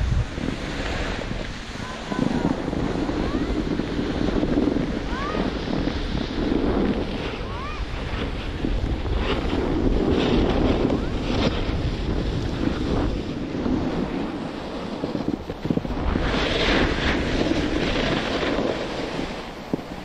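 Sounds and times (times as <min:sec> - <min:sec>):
skis hissing over snow: 0:00.0 - 0:20.0
wind rushing over microphone: 0:00.0 - 0:20.0.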